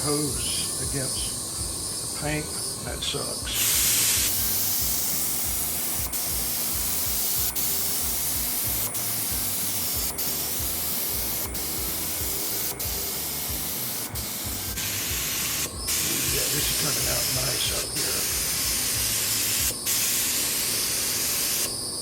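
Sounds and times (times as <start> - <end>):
paint spray gun hissing: 0.0 - 22.0.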